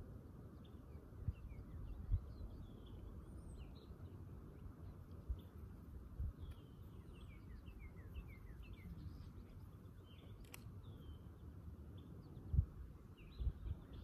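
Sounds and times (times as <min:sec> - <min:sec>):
wild birds singing: 0:00.0 - 0:14.0.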